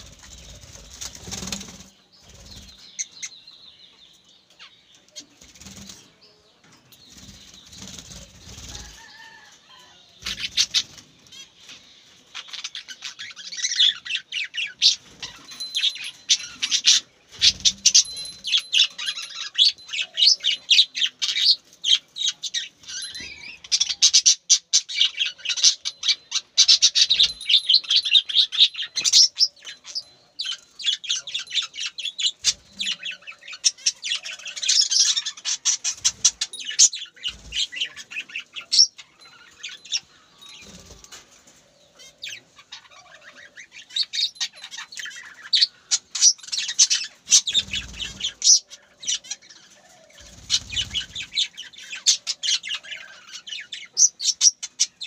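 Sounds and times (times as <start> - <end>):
birds chirping and chattering: 0.0 - 55.0.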